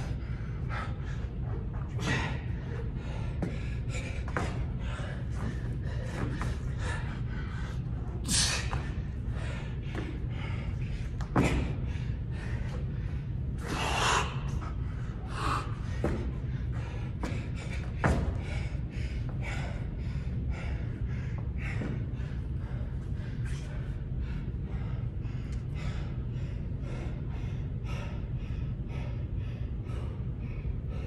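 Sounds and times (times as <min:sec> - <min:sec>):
man breathing hard: 0:00.0 - 0:31.0
steady low hum: 0:00.0 - 0:31.0.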